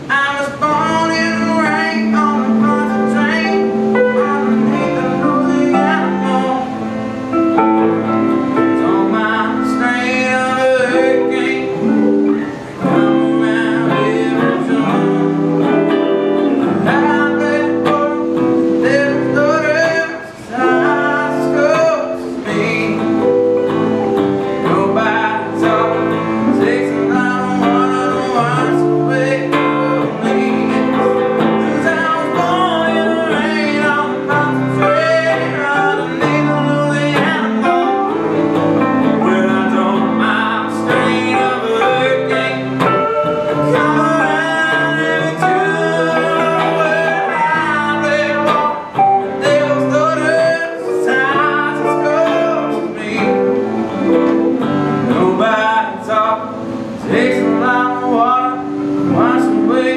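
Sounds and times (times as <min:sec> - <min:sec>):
electric guitar lead line: 0:00.0 - 0:59.9
strummed guitar chords: 0:00.0 - 0:59.9.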